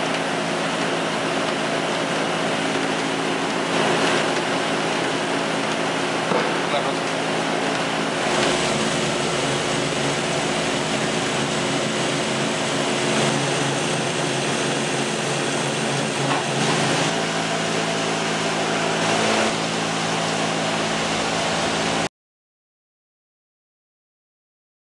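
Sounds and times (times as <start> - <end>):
metal lathe humming: 0.0 - 22.1.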